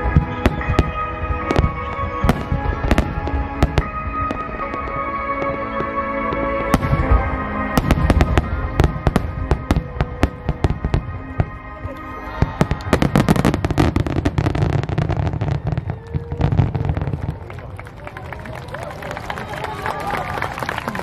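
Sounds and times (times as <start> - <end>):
music playing: 0.0 - 21.0.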